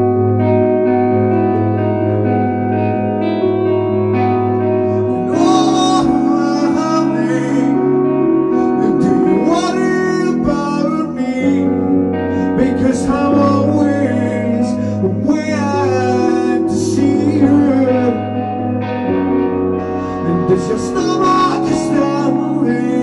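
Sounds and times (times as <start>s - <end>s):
bass guitar: 0.0s - 23.0s
electric guitar chords: 0.0s - 23.0s
live rock band playing: 0.0s - 23.0s.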